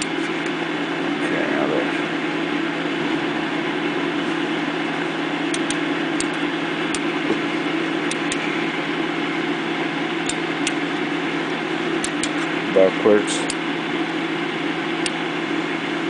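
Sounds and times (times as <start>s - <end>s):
cooling fan whirring: 0.0s - 16.0s
stepper motor humming: 0.0s - 16.0s.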